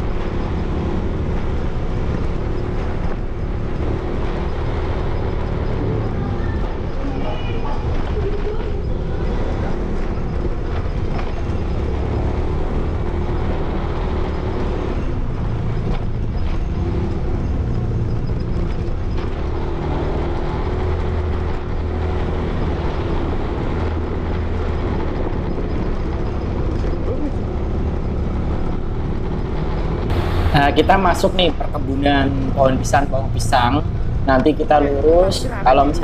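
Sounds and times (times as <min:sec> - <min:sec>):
motorcycle engine humming: 0:00.0 - 0:36.0.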